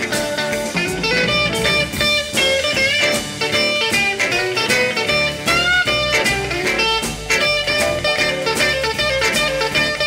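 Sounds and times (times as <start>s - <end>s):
blues guitar music: 0.0s - 10.0s.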